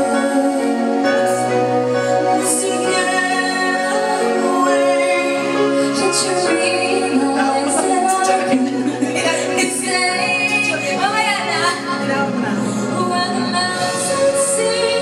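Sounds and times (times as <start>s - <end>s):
slow tender song: 0.0s - 15.0s.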